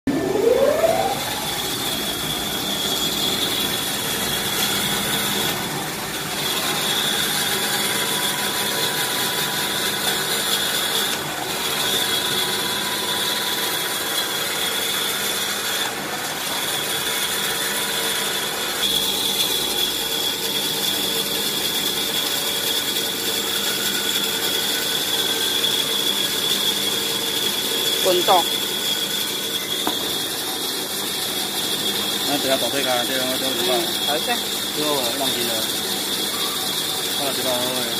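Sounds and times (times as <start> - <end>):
paper cutting machine whine: 0.1 - 37.9.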